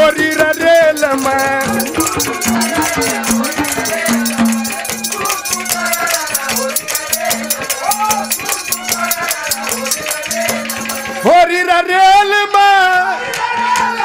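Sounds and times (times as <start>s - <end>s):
wavering folk melody: 0.0s - 11.4s
rattling percussion beat: 0.0s - 11.7s.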